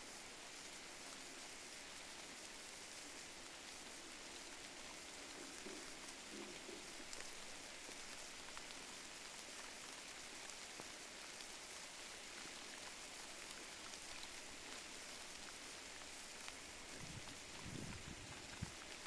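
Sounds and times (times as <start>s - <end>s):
faint steady hiss: 0.0s - 19.0s
small ticks: 3.1s - 19.0s.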